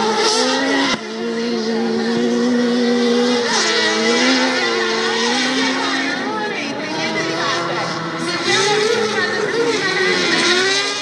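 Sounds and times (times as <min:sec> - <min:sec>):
race car engines revving high: 0:00.0 - 0:11.0.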